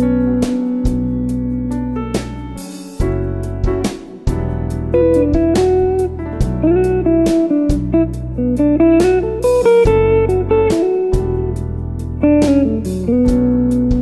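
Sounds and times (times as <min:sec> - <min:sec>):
bass line: 0:00.0 - 0:14.0
electric guitar melody: 0:00.0 - 0:14.0.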